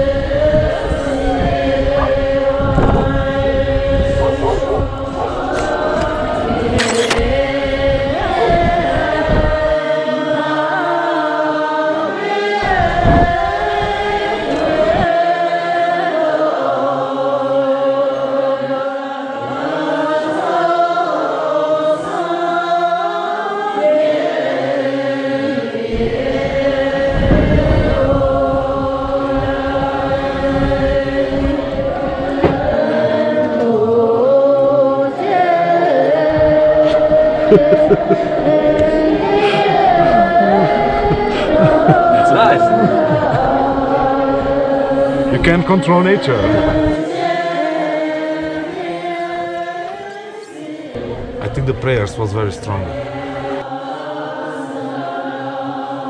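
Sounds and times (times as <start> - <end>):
monks chanting in unison: 0.0 - 51.8, 52.6 - 56.0.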